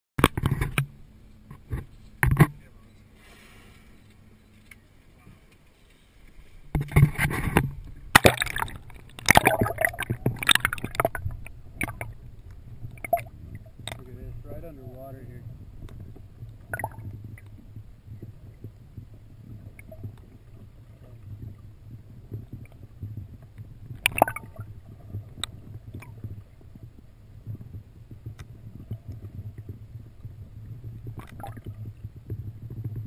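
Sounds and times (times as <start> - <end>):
muffled underwater rumble: 0.2 - 33.0.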